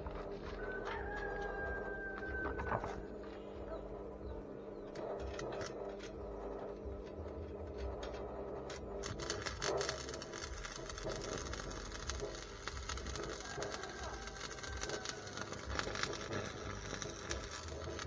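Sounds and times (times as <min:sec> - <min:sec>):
arc welding crackle and sizzle: 0:00.0 - 0:02.8, 0:04.9 - 0:18.0.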